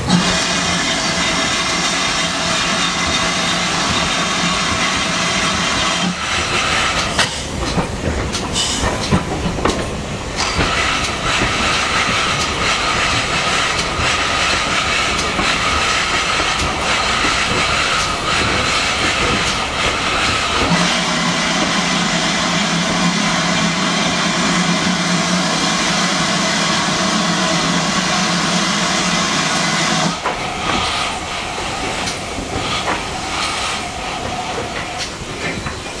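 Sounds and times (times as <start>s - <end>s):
steam locomotive hissing: 0.0s - 36.0s.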